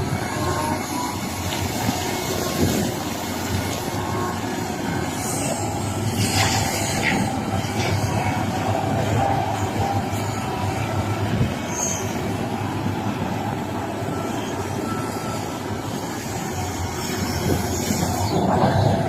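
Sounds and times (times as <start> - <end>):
diesel excavator engine rumble: 0.0 - 19.0.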